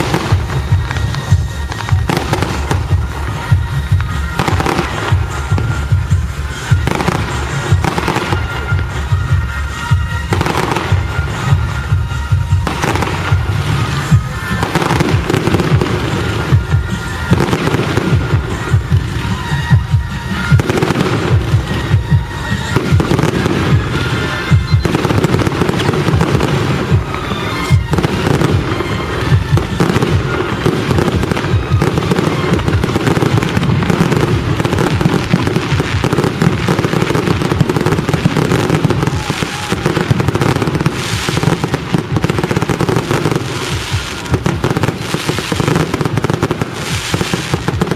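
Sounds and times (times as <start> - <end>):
fireworks bangs and crackle: 0.0 - 47.9.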